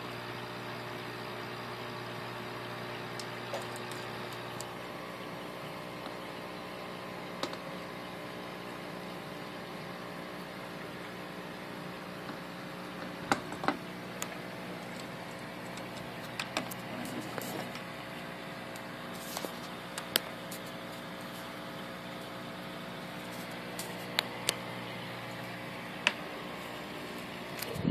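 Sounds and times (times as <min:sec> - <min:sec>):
aquarium pump humming: 0:00.0 - 0:27.9.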